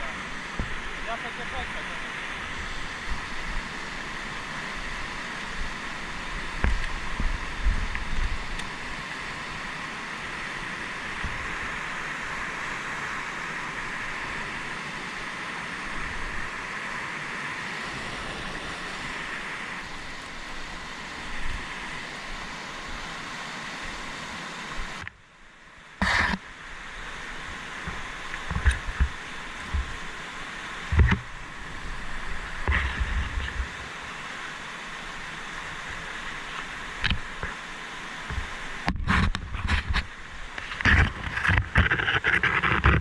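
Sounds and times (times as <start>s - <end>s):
fast mountain river rushing: 0.0s - 43.0s.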